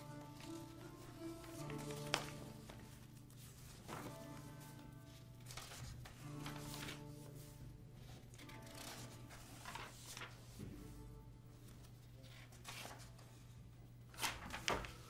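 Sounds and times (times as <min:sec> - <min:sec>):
paper pages rustling: 0:00.0 - 0:11.0, 0:11.6 - 0:15.0.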